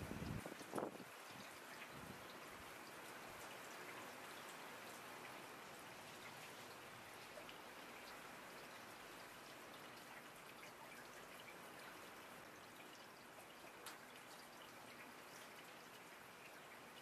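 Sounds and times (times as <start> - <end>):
faint room tone hiss: 0.0 - 17.0.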